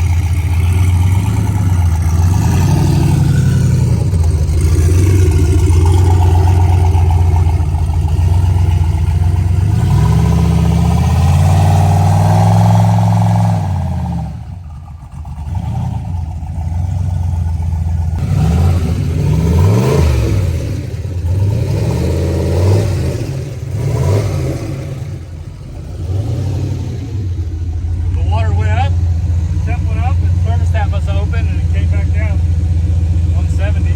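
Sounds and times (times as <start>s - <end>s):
engine revving: 0.0s - 33.9s.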